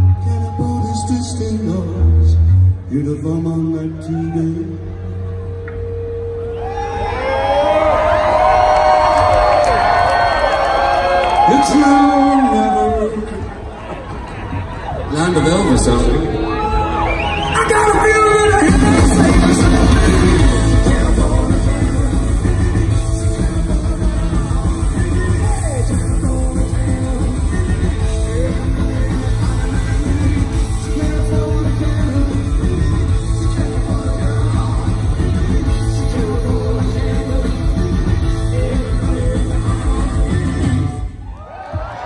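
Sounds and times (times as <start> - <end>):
singer's voice: 0.0 - 5.5, 10.9 - 13.8, 15.1 - 42.0
bass guitar: 0.0 - 9.6, 15.8 - 41.2
electric guitars: 0.0 - 41.3
drums: 5.5 - 42.0.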